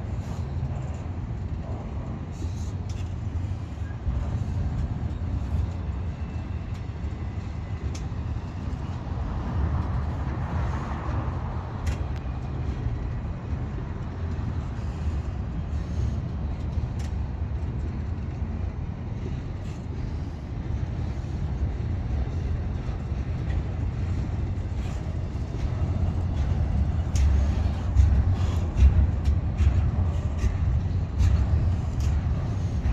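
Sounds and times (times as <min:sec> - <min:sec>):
train wheels rumbling on rail: 0:00.0 - 0:32.9.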